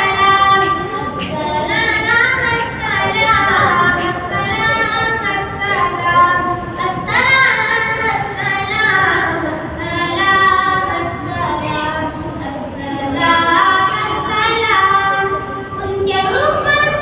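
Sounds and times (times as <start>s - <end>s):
boy singing unaccompanied: 0.0s - 17.0s.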